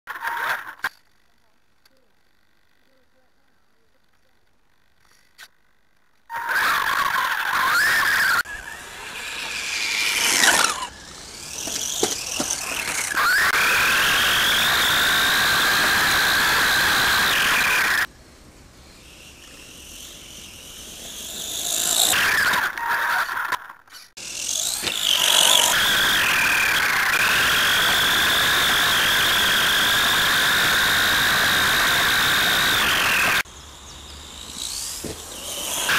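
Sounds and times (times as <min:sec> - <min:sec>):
radio-controlled car motor whine: 0:00.1 - 0:35.9.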